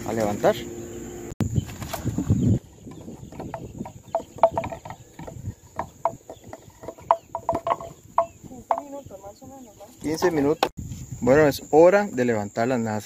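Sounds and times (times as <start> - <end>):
bird calls: 0.0 - 10.7
insect buzz: 0.0 - 13.0.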